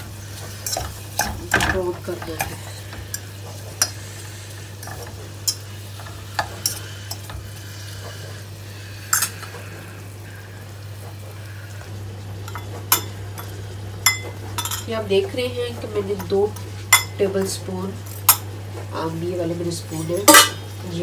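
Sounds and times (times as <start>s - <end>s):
onions sizzling: 0.0s - 21.0s
steady low hum: 0.0s - 21.0s.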